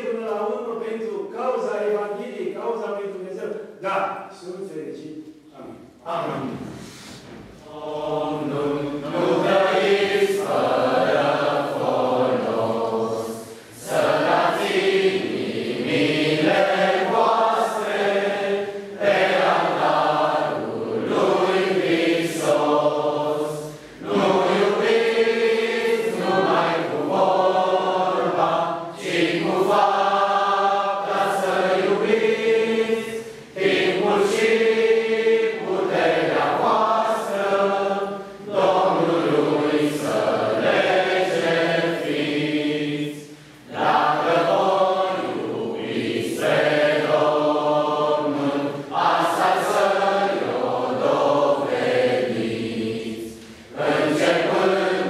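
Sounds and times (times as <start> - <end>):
congregation singing a hymn: 5.5 - 55.0.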